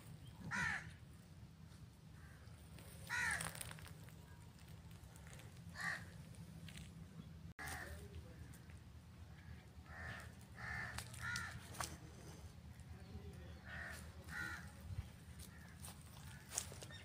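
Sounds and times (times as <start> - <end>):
bird calls: 2.2 - 17.0.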